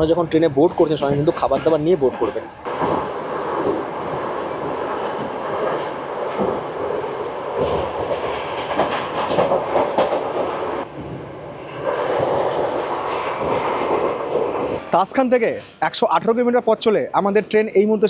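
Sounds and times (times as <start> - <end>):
wheels clacking on rails: 0.0 - 14.8
train wheels rumbling on track: 0.0 - 15.2.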